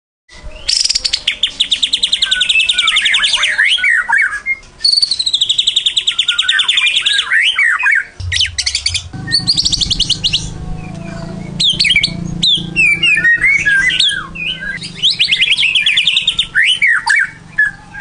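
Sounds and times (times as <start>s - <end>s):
songbird singing whistles: 0.3s - 18.0s.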